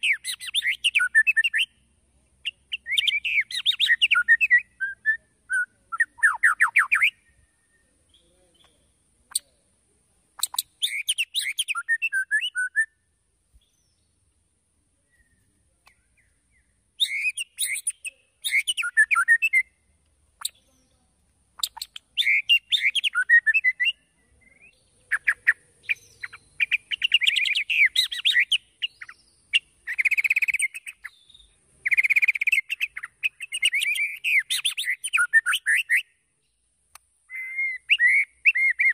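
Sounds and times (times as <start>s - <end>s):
songbird singing chirps and trills: 0.0s - 38.9s.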